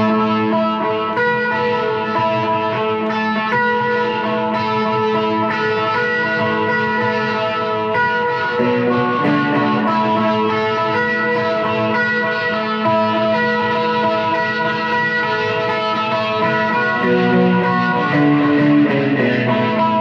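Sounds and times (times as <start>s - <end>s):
guitar chords ringing: 0.0s - 20.0s.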